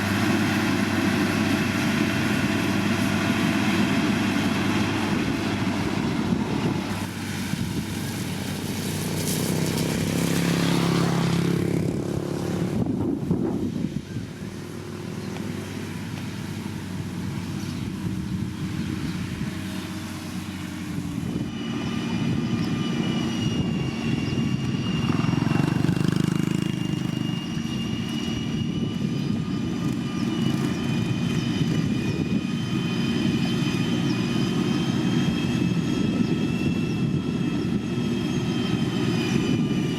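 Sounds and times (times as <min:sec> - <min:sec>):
diesel engines of heavy machinery: 0:00.0 - 0:39.9
high-pitched whine: 0:00.0 - 0:39.9.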